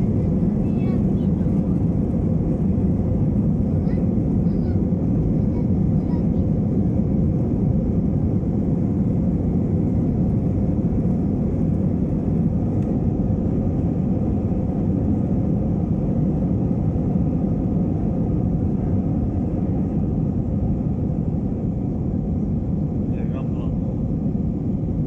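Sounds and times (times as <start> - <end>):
jet cabin engine noise: 0.0 - 25.0.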